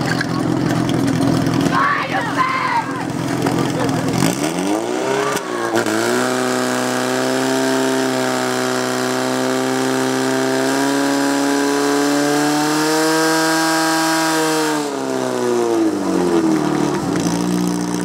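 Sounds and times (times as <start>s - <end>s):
pump engine running at high revs: 0.0s - 18.0s.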